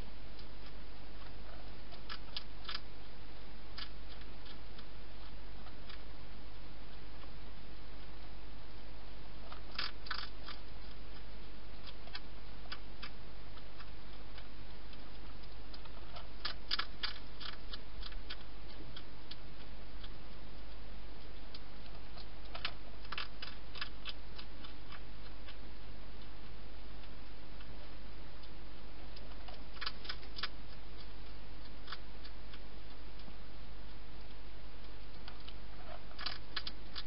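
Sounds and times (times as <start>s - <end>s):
steady low hum: 0.0s - 37.0s
hedgehog crunching food: 0.3s - 37.0s.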